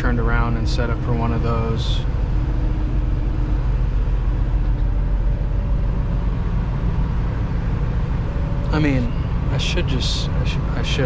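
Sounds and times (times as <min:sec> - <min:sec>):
truck diesel engine low hum: 0:00.0 - 0:11.0.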